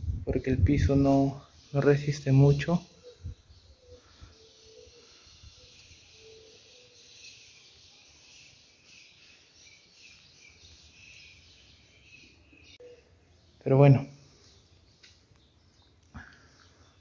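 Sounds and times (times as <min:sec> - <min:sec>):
faint high chirping: 0:01.4 - 0:17.0.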